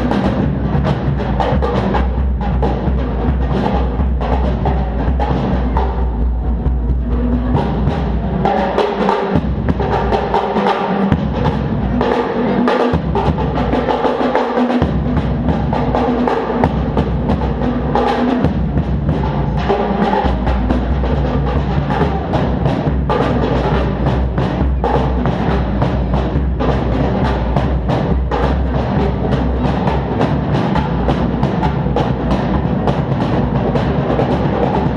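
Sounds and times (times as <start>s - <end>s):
drum kit playing: 0.0s - 34.9s.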